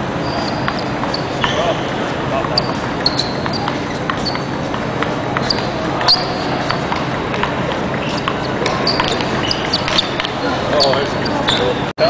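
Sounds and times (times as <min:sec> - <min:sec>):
hum of large hall: 0:00.0 - 0:12.0
ping pong ball clicking off paddles: 0:00.3 - 0:01.6, 0:02.4 - 0:11.6
ball bouncing on table: 0:00.5 - 0:01.7, 0:02.4 - 0:11.6.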